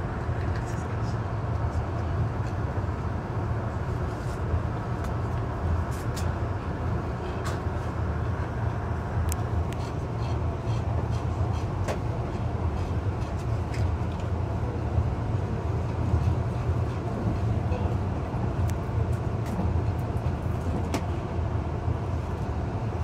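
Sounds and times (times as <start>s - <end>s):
train interior rumble: 0.0s - 23.0s.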